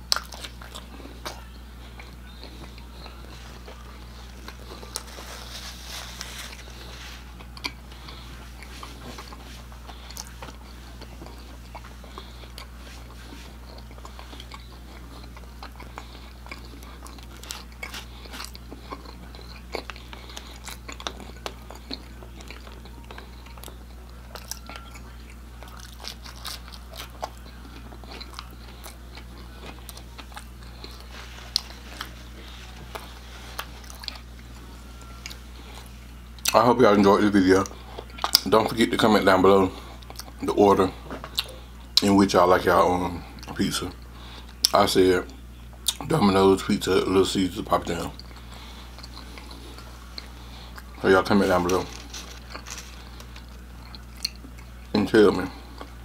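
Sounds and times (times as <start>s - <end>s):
chewing crunchy pizza crust: 0.0s - 56.0s
low hum: 0.0s - 56.0s.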